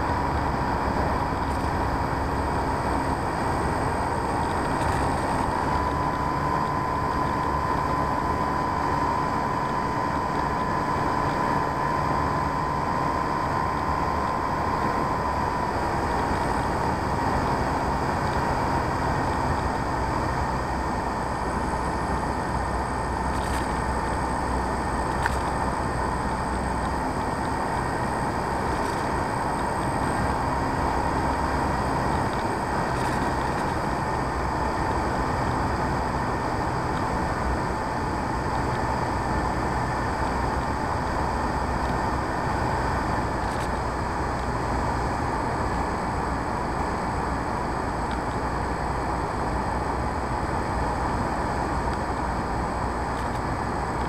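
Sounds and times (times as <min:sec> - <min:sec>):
model plane motor and propeller: 0:00.0 - 0:54.0.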